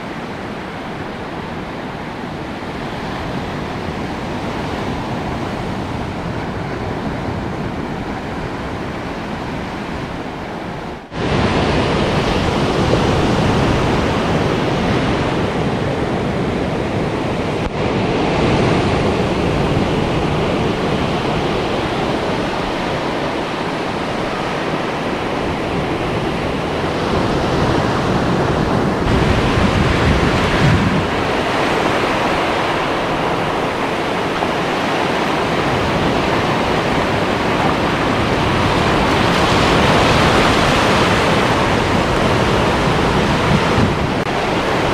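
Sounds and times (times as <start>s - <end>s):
surf breaking on beach: 0.0s - 44.9s
wind on microphone: 0.0s - 44.9s.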